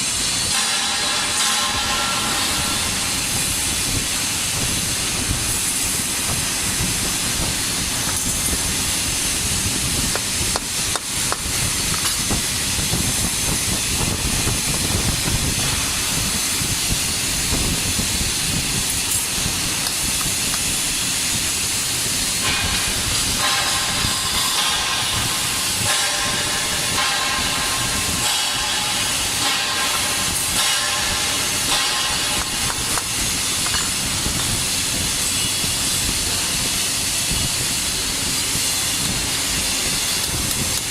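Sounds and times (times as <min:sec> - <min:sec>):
welding arc crackling hiss: 0:00.0 - 0:40.9.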